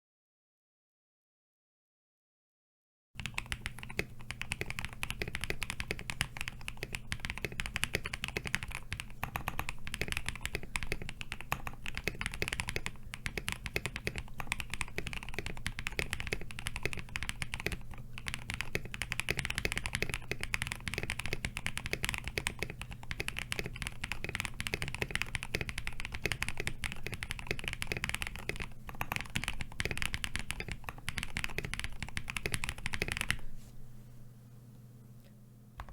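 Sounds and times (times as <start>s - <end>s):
fast typing on keyboard: 3.2s - 33.4s.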